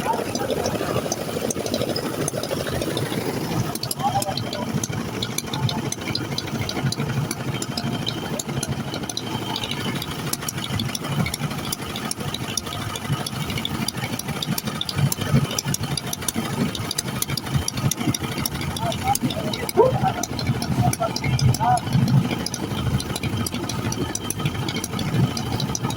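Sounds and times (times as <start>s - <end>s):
motorboat engine running: 0.0s - 25.9s
rattle of small clicks: 0.0s - 25.9s.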